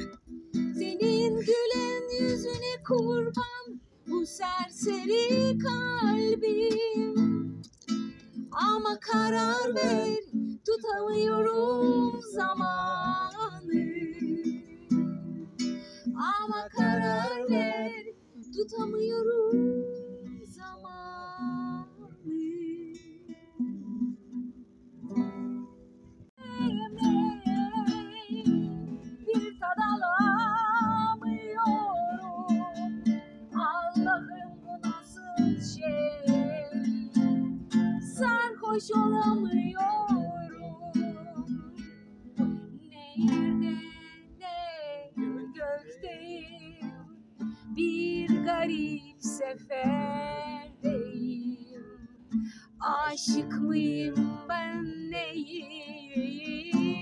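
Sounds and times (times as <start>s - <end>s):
woman singing: 0.0s - 7.6s, 8.4s - 24.1s, 26.4s - 57.0s
strummed acoustic guitar: 0.0s - 57.0s.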